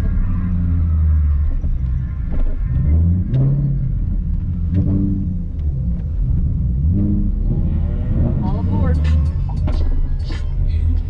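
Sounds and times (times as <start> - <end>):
car engine revving hard: 0.0 - 9.4.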